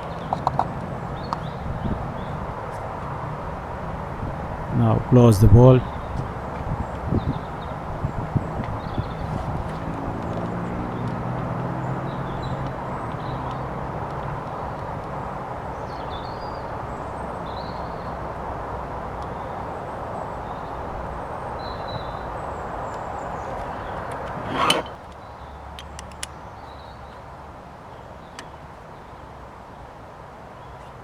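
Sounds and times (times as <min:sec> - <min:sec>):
low engine hum: 0:00.0 - 0:25.0
distant traffic: 0:00.0 - 0:27.2.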